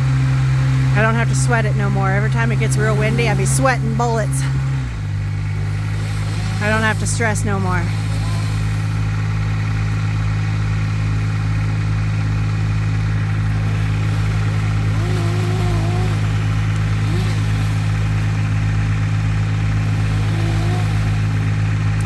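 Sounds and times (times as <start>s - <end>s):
heavy equipment engine humming: 0.0s - 22.0s.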